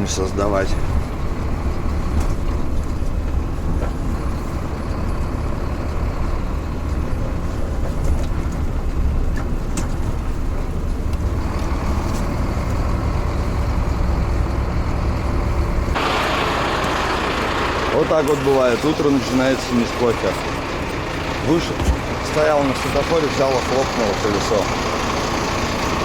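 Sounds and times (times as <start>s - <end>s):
truck diesel engine rumbling: 0.0s - 26.0s.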